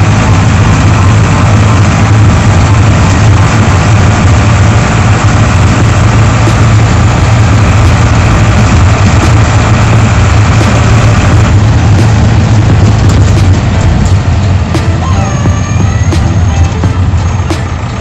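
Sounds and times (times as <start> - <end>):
bus diesel engine drone: 0.0 - 18.0
road noise: 0.0 - 18.0.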